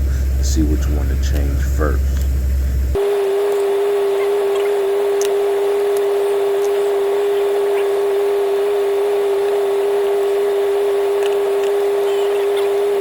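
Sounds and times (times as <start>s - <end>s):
loud mechanical hum: 0.0s - 13.0s.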